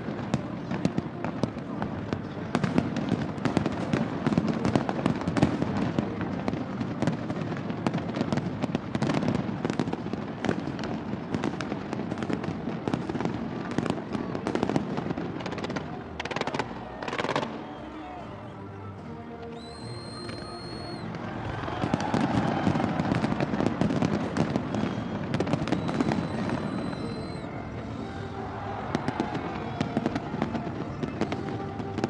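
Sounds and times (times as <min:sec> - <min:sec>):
fireworks bursts and crackling bangs: 0:00.0 - 0:32.0.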